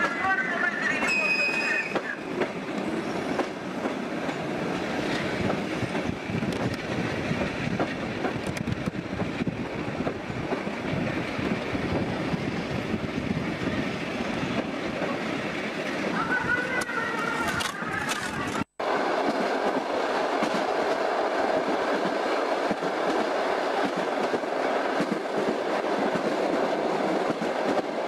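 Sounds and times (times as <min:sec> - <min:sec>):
train wheels on rails: 0:00.0 - 0:28.0.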